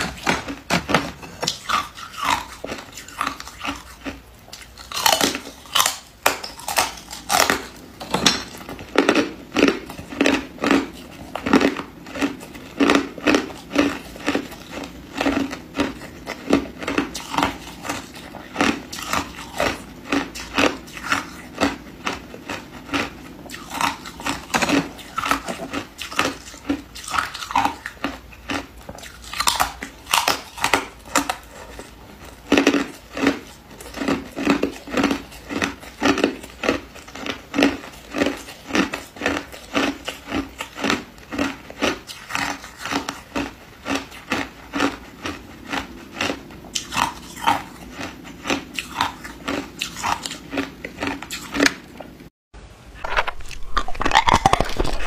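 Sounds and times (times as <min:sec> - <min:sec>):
ice crunching between teeth: 0:00.0 - 0:51.9, 0:53.0 - 0:55.0.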